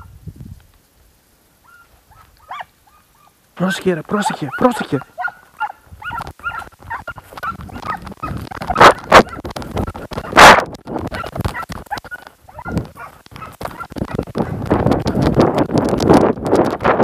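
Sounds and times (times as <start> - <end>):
hounds yelping and baying: 1.6 - 15.3.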